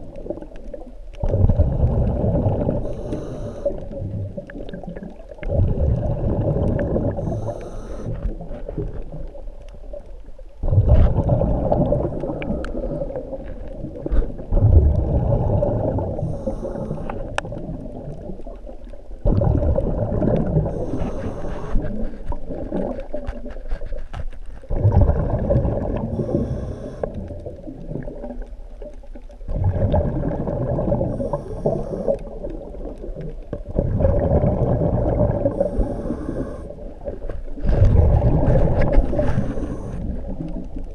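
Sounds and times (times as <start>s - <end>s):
bubbling exhaled air underwater: 0.0s - 23.6s, 24.7s - 40.9s.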